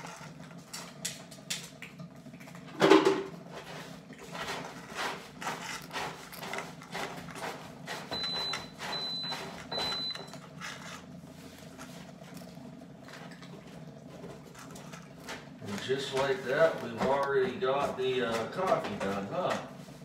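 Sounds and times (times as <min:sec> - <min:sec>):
cats chewing and crunching food: 0:00.0 - 0:20.0.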